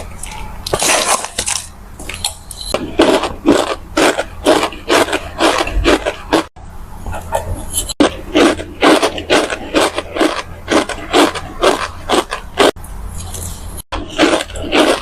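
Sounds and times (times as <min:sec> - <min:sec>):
starch chunks crunching: 0:00.0 - 0:02.2, 0:02.8 - 0:06.6, 0:08.0 - 0:15.0.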